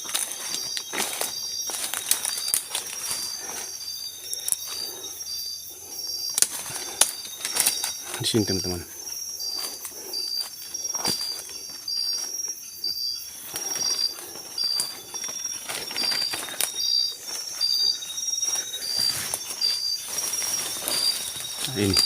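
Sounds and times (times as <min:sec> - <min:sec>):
high-pitched insect drone: 0:00.0 - 0:22.0
insects chirping: 0:00.0 - 0:22.0
rustling footsteps: 0:00.0 - 0:22.0.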